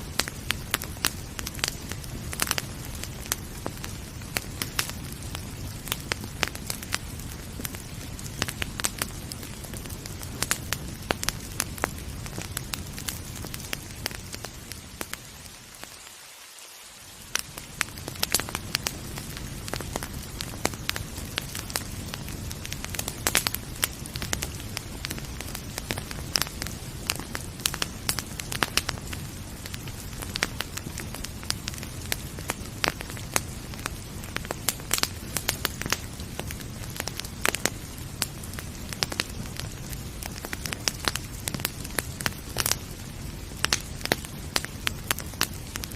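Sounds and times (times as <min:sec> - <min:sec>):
rain hissing: 0:00.0 - 0:45.9
wood fire crackling: 0:00.0 - 0:45.9.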